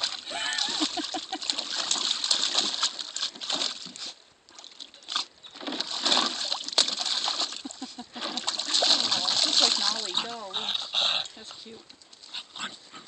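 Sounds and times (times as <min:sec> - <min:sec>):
puppy splashing water in pool: 0:00.0 - 0:12.6.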